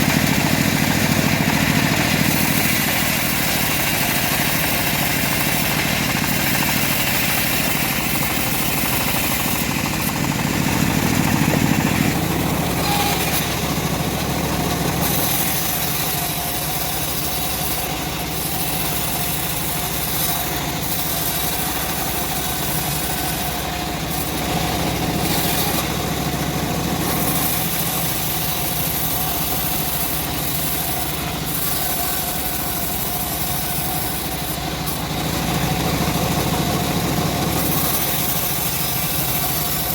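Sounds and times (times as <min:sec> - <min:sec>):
bandsaw motor drone: 0:00.0 - 0:39.9
saw blade cutting log: 0:00.0 - 0:39.9.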